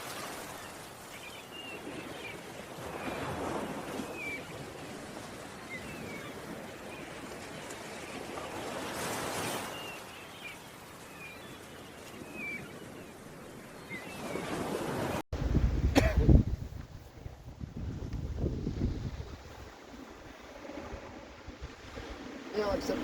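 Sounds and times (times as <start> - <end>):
sea surf washing on shore: 0.0 - 23.0.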